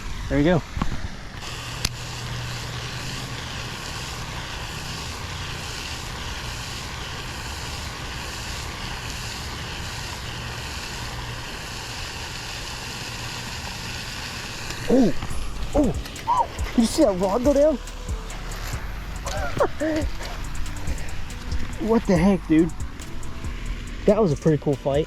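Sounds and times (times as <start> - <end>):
low engine drone: 0.0 - 25.0
steady hiss: 0.0 - 25.0.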